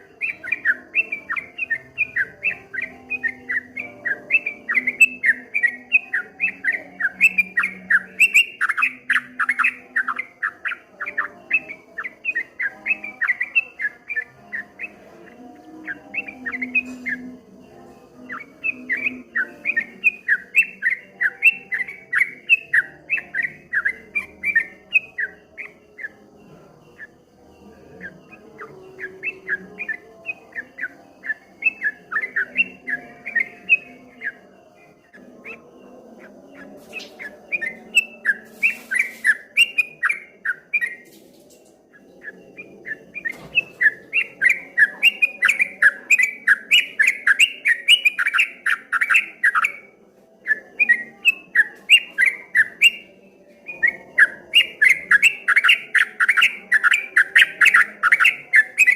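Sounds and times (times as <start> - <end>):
bird singing rapid repeated notes: 0.0 - 58.9.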